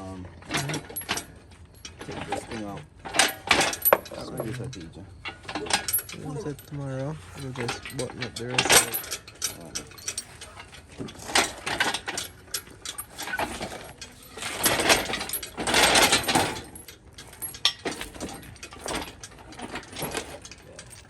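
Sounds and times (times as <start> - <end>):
hand tools clanking on metal: 0.0 - 21.0
rough rattling bursts: 0.0 - 21.0.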